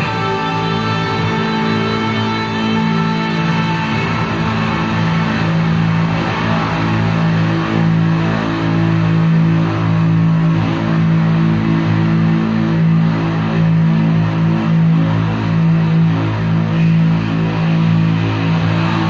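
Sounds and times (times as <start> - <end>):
bass notes: 0.0 - 19.0
distorted electric guitars droning: 0.0 - 19.0.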